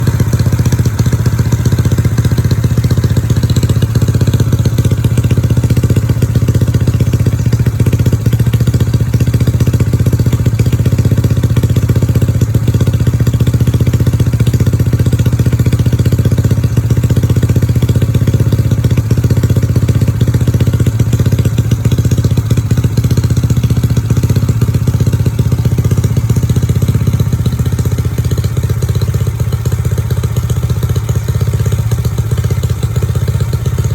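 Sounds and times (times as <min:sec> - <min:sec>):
scooter engine idling: 0:00.0 - 0:33.9.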